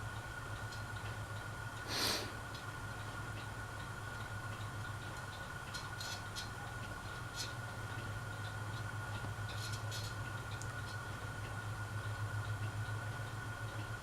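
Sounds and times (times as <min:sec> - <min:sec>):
ceiling fan motor humming: 0:00.0 - 0:14.0
light fan clicks: 0:00.0 - 0:14.0
thin steady whine: 0:00.0 - 0:14.0.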